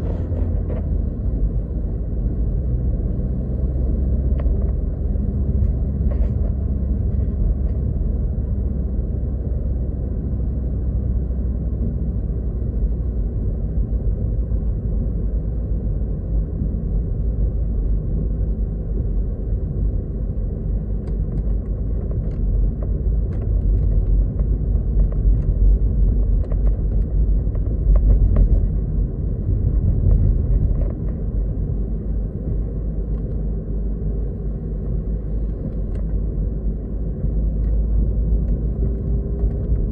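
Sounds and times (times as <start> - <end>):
car interior driving rumble: 0.0 - 39.9.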